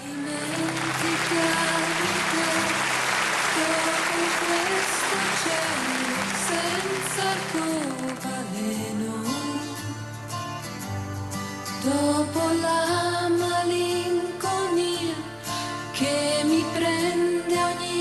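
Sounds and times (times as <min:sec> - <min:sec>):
song with guitar and bass: 0:00.0 - 0:18.0.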